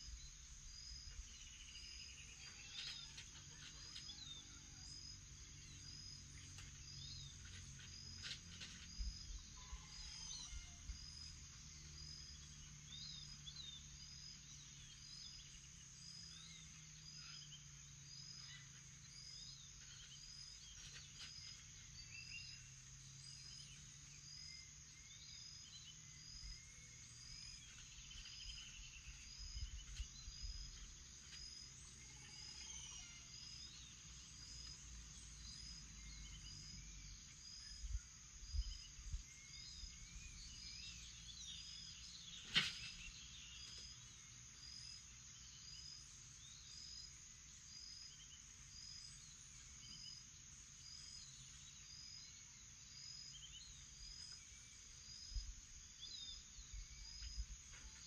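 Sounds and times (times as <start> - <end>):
birdsong: 0.0 - 58.0.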